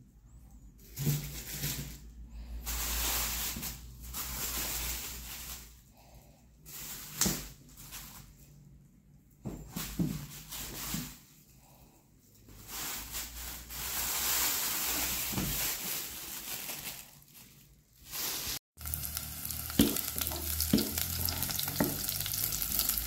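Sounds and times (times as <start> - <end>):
plastic wrap and bag rustling: 0.8 - 23.0.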